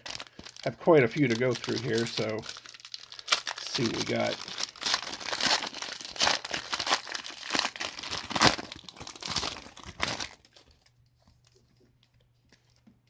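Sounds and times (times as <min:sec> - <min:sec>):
wrapper tearing and crinkling: 0:00.0 - 0:10.9.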